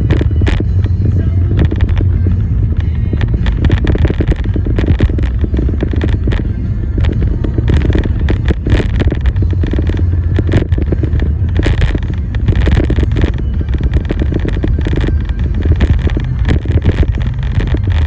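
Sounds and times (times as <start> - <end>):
car road rumble: 0.0 - 18.0
crackling and buffeting: 0.0 - 18.0.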